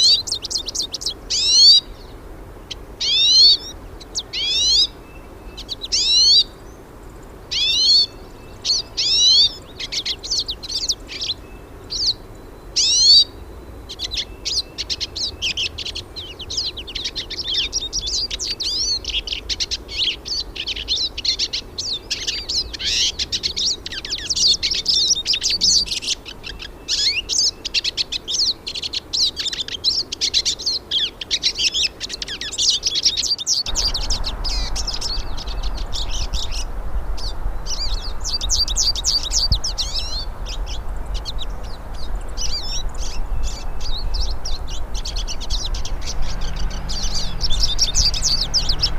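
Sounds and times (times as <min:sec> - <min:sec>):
birds twittering song: 0:00.0 - 0:48.9.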